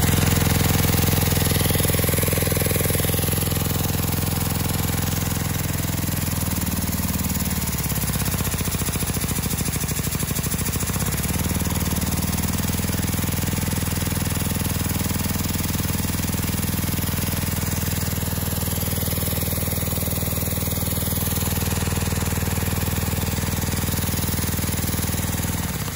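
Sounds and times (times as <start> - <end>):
small engine rapid clatter: 0.0 - 25.9.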